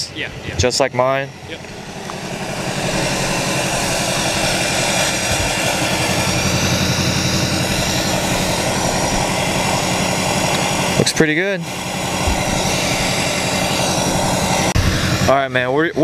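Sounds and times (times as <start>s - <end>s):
diesel engine idling: 0.0s - 16.0s
turbo hiss: 1.3s - 15.6s.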